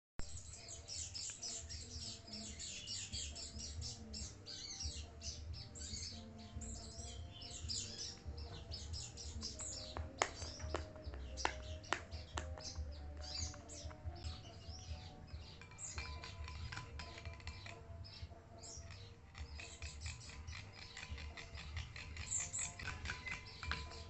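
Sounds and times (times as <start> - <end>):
small birds chirping: 0.2 - 24.0.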